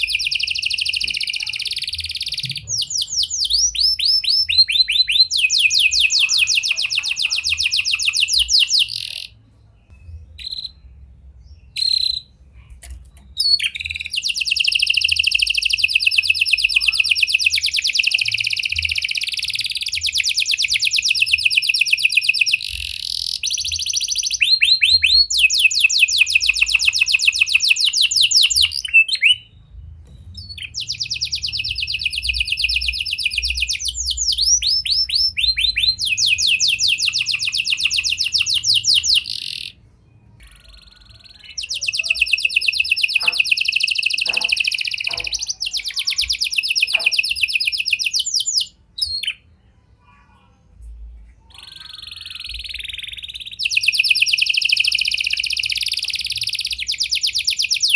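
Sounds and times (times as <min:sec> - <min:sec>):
canary singing rapid rolls: 0:00.0 - 0:39.8, 0:40.4 - 0:49.4, 0:51.6 - 0:57.9.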